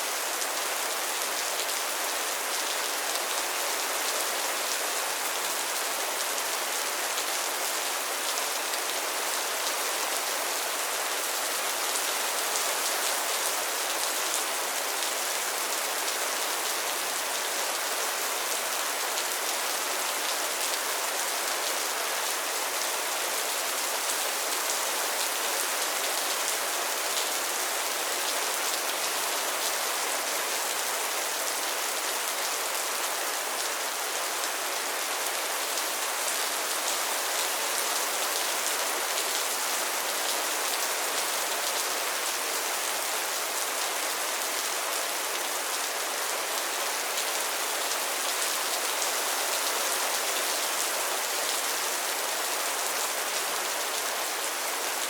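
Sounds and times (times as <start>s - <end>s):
rain falling on a pond: 0.0s - 55.0s.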